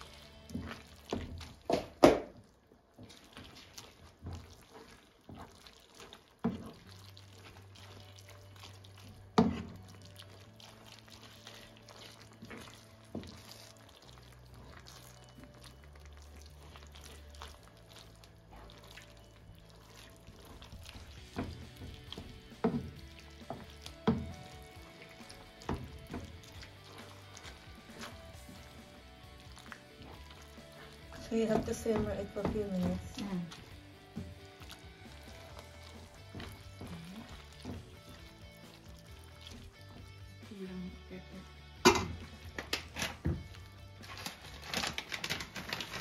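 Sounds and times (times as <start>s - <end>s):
wet stirring of pasta in sauce: 0.0s - 40.4s, 41.8s - 46.0s.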